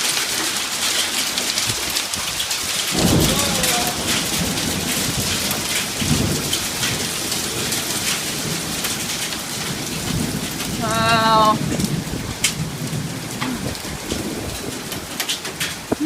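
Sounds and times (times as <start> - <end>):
hailstones pelting: 0.0 - 16.0
thunder rumble: 2.9 - 16.0.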